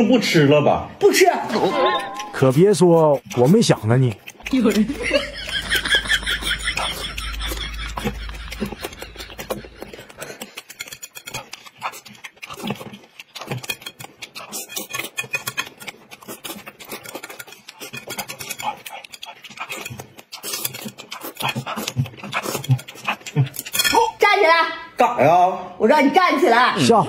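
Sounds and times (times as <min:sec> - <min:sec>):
man chewing noodles: 0:02.0 - 0:23.9.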